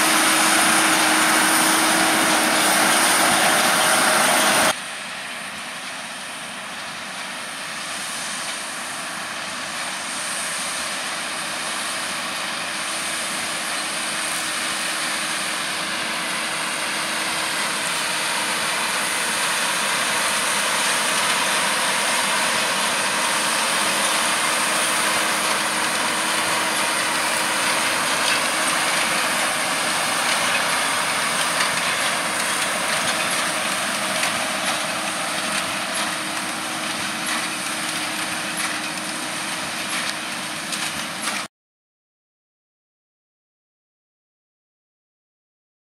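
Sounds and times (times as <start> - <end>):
tractor and baler running: 0.0 - 41.5.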